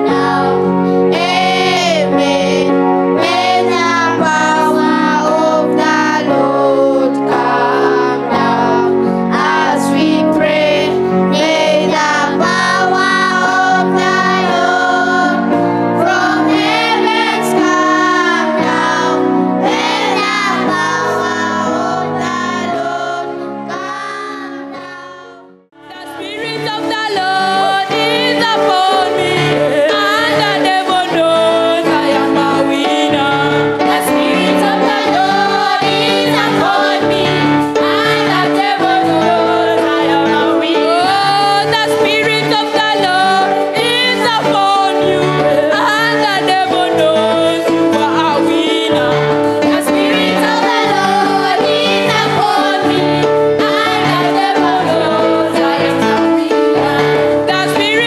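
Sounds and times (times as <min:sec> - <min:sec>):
person singing with vibrato: 0:00.0 - 0:58.0.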